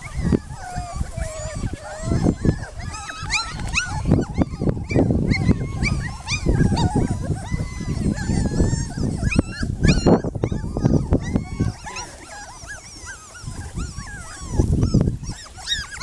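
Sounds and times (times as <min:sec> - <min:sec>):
puppies whimpering and yipping: 0:00.0 - 0:16.0.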